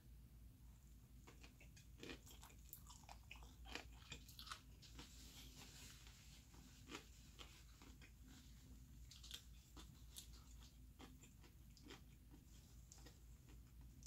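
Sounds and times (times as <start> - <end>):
person chewing noodles: 1.2 - 14.0.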